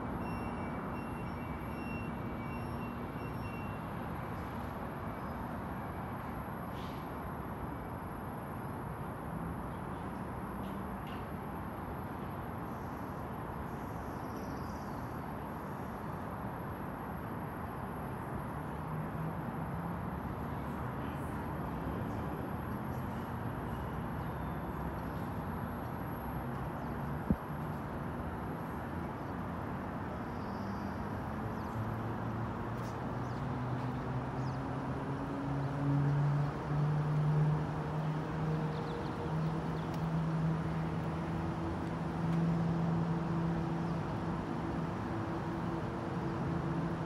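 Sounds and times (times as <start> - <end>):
steady outdoor hiss: 0.0 - 47.0.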